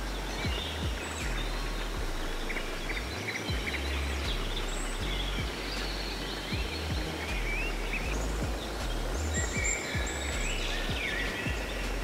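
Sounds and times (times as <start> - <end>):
low uneven rumble: 0.0 - 12.0
songbirds chirping: 0.0 - 12.0.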